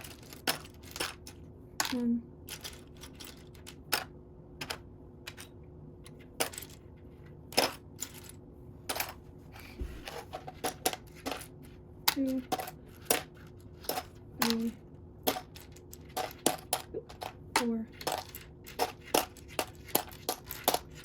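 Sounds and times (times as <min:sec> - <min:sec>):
plastic pieces clicking and clattering: 0:00.0 - 0:09.2, 0:10.1 - 0:21.0.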